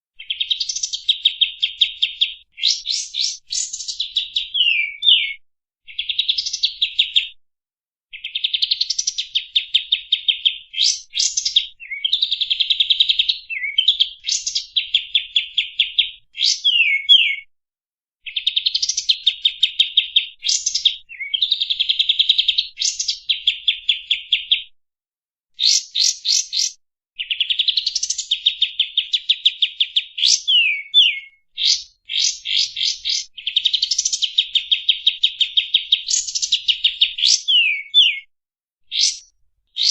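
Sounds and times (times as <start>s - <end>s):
bird singing trilled phrases: 0.2s - 7.3s, 8.1s - 17.5s, 18.2s - 24.7s, 25.6s - 38.3s, 38.9s - 39.9s.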